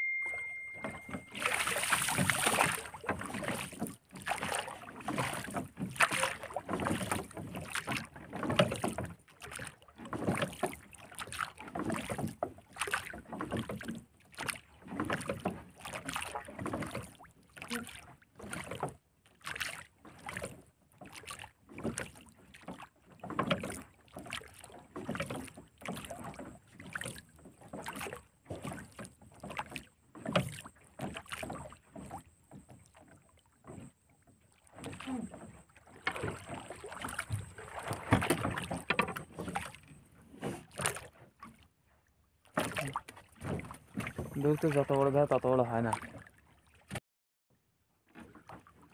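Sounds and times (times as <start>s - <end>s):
waves slapping against boat hull: 0.0s - 47.0s, 48.1s - 48.9s.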